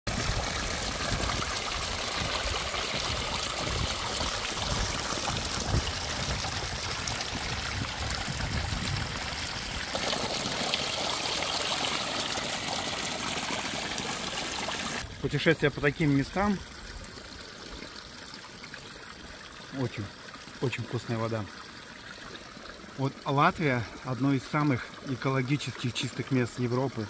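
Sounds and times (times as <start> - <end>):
water stream splashing into pool: 0.1 - 27.0.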